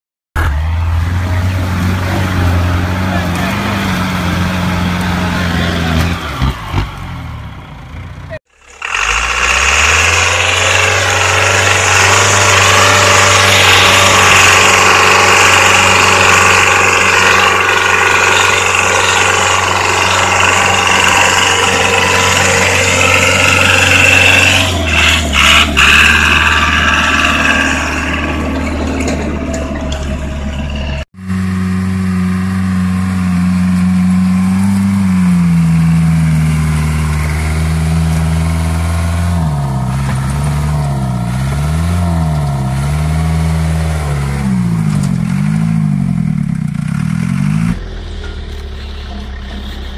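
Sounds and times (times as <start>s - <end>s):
off-road vehicle engine revving: 0.4s - 49.9s
pickup engine labouring: 0.4s - 49.9s.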